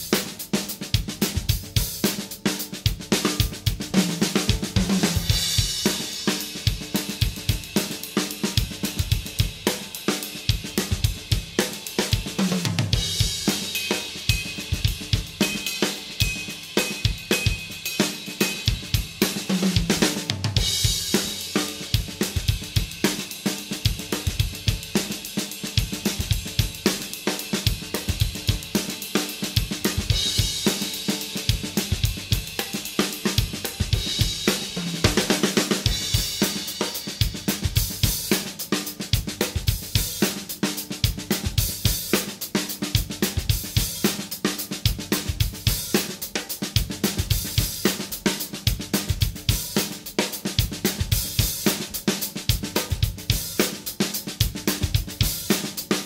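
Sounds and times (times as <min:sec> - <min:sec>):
drum kit groove: 0:00.0 - 0:56.0.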